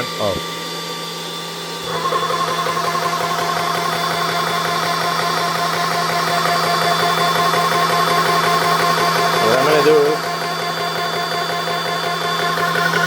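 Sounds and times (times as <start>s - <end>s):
air compressor pulsing: 0.0s - 13.0s
cooling fans humming: 0.0s - 13.0s.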